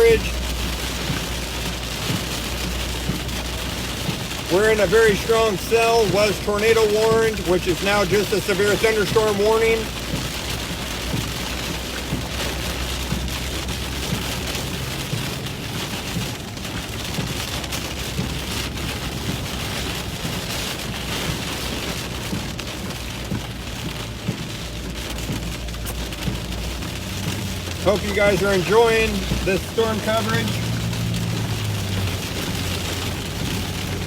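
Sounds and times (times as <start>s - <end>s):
engine and road noise: 0.0s - 34.0s
heavy rain on vehicle roof: 0.0s - 34.0s.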